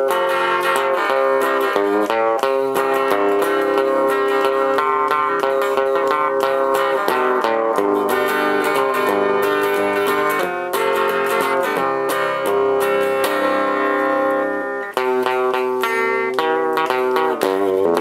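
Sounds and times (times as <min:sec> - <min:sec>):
electric guitar: 0:00.0 - 0:18.0.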